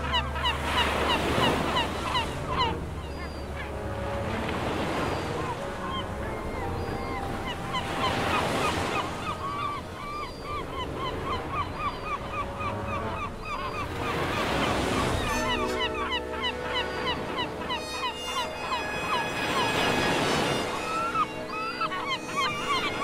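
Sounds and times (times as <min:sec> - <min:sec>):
sea lions calling: 0:00.0 - 0:23.0.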